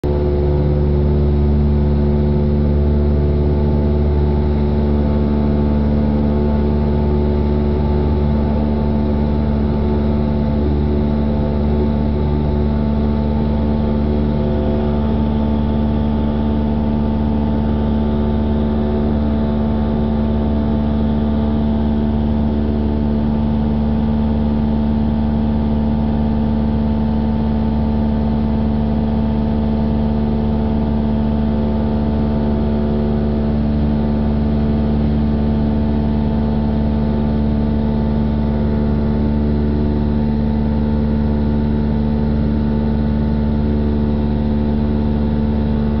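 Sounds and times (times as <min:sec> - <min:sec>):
airplane engine hum in cabin: 0:00.0 - 0:46.0.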